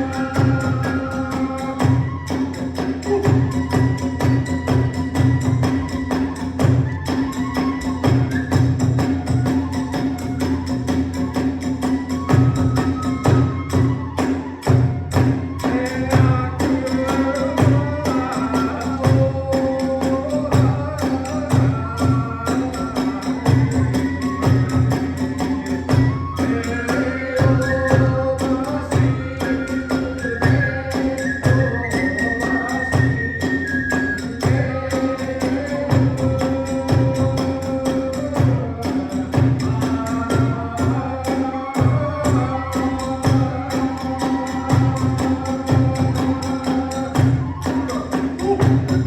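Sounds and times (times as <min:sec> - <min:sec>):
bamboo flute melody: 0:00.0 - 0:49.0
big drum beat: 0:00.0 - 0:49.0.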